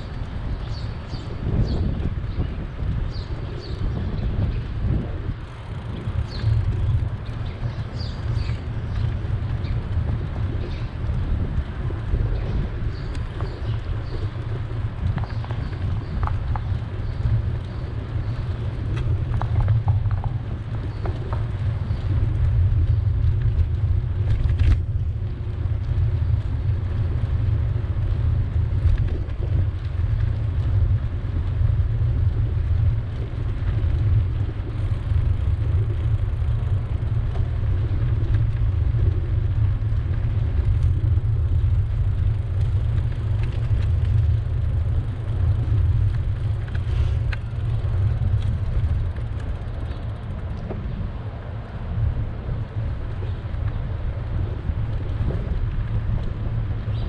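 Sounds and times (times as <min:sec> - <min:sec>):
wind and road noise on microphone: 0:00.0 - 0:57.0.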